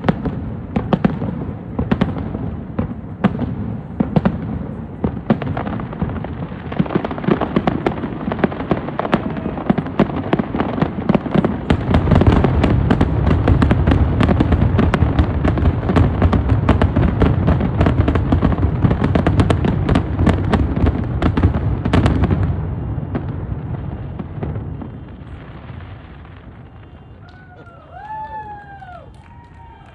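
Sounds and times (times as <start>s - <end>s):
fireworks bangs and crackling: 0.0s - 29.9s
heavy fireworks booms: 0.0s - 29.9s.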